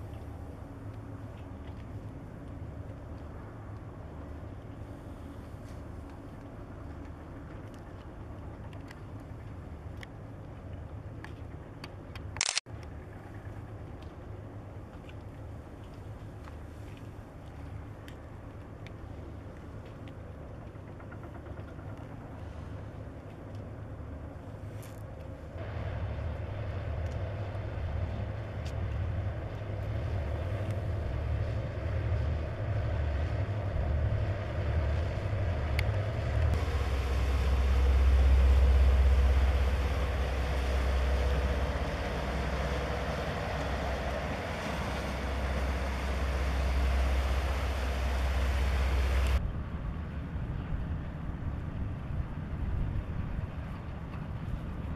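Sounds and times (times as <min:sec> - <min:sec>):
rushing water and wind: 0:00.0 - 0:20.8, 0:21.4 - 0:54.9
boat engines rumbling: 0:00.0 - 0:54.9.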